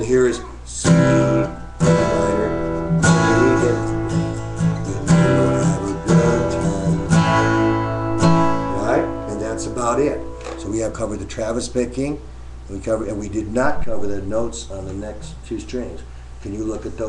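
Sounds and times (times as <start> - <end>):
acoustic guitar chords: 0.0 - 15.5.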